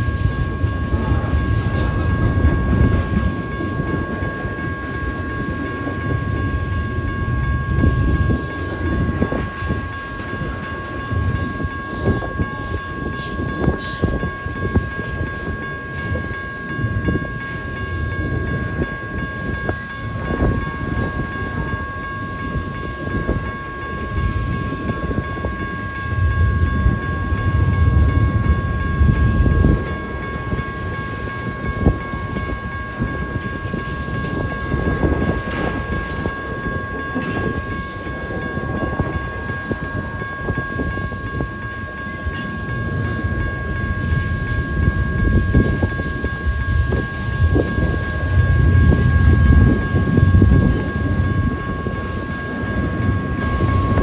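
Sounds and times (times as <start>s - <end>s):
freight train rumbling: 0.0s - 54.0s
steady high-pitched tones: 0.0s - 54.0s
train wheels clicking: 0.0s - 54.0s.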